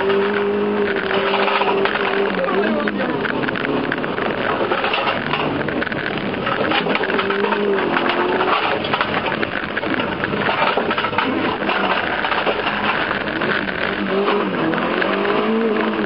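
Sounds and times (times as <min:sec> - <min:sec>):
car engine running: 0:00.0 - 0:16.0
loose things rattling in car: 0:00.0 - 0:16.0.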